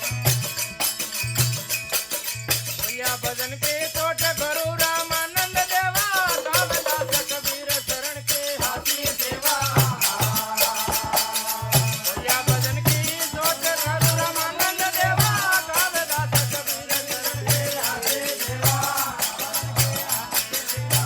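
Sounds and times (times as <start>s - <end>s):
fast percussion rhythm: 0.0s - 21.0s.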